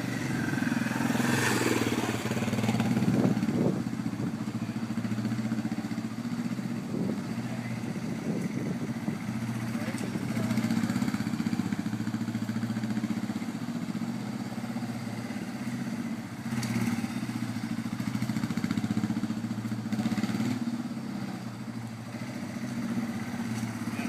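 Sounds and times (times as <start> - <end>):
motorcycle engine at low revs: 0.0 - 24.0.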